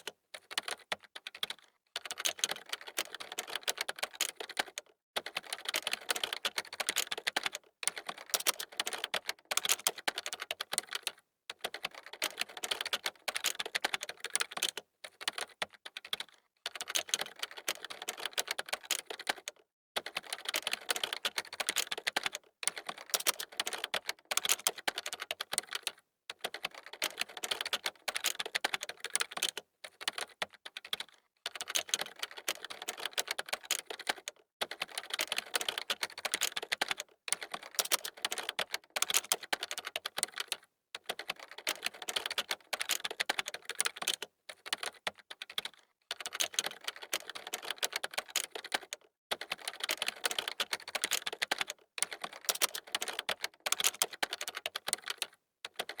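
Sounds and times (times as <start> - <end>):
computer keyboard typing: 0.0 - 56.0.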